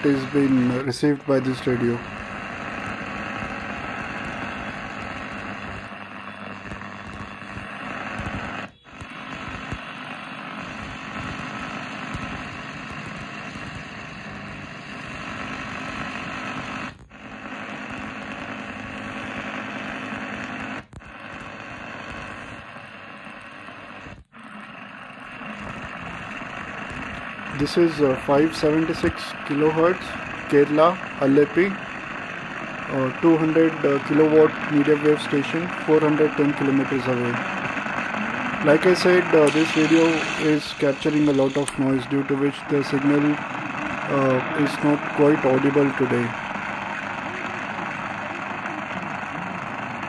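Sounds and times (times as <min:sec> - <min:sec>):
radio static: 0:00.0 - 0:50.0.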